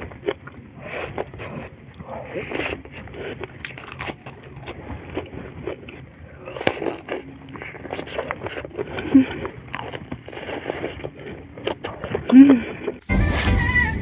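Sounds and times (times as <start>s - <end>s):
wet crackly mouth noises: 0.0s - 13.1s
person biting and chewing: 0.0s - 13.5s.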